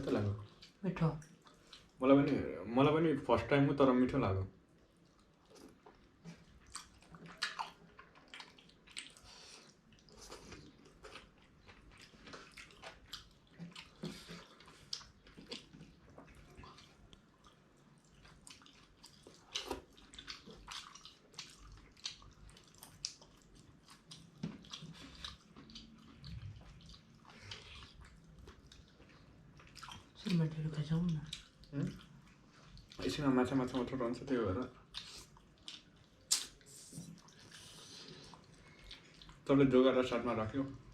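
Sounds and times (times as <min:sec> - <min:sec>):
people chewing food: 0:00.0 - 0:02.6, 0:03.3 - 0:40.9.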